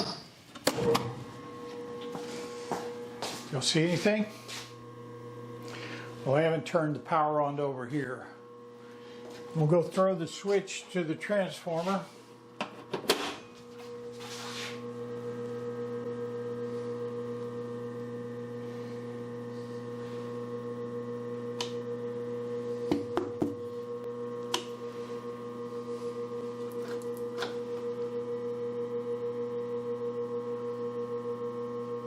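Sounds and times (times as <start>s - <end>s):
transformer electrical hum: 0.4s - 28.4s.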